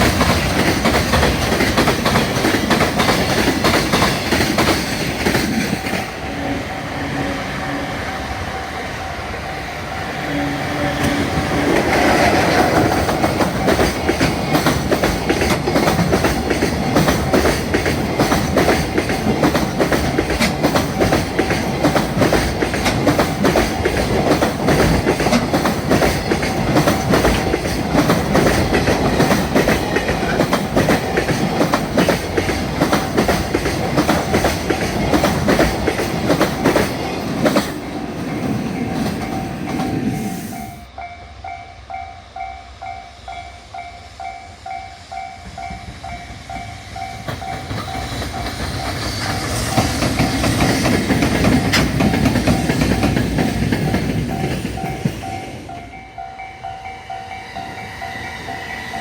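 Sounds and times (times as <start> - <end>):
freight train wheels clattering: 0.0 - 6.2, 10.8 - 40.2, 44.6 - 56.7.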